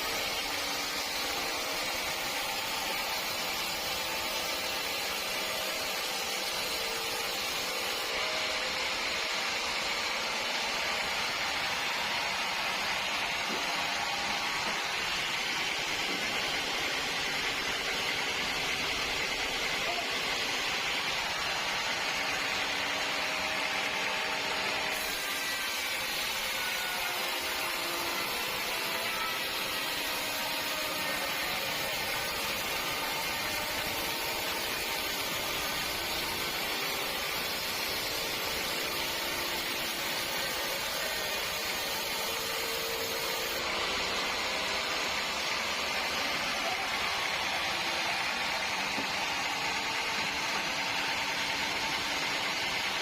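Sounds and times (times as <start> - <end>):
sawmill machinery running: 0.0 - 53.0.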